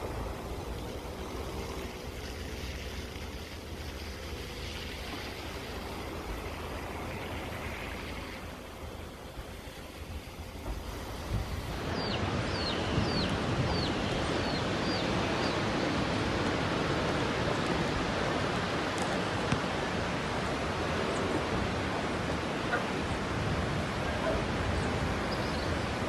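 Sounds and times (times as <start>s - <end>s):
steady loud rushing noise: 0.0s - 26.0s.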